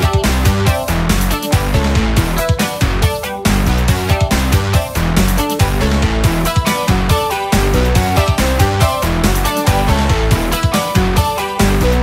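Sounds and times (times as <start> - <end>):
song with bass and beat: 0.0 - 12.0.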